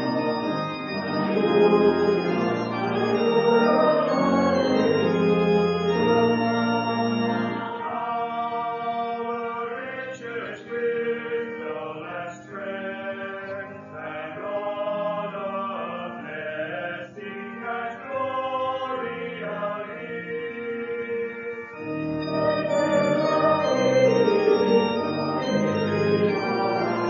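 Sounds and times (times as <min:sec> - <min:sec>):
church organ chords: 0:00.0 - 0:27.0
voices singing together: 0:00.0 - 0:27.0.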